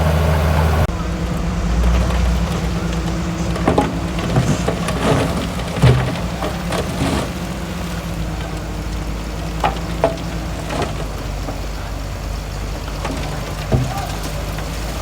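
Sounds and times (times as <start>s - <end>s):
crackling gritty noise: 0.0s - 15.0s
diesel engine running: 0.0s - 15.0s.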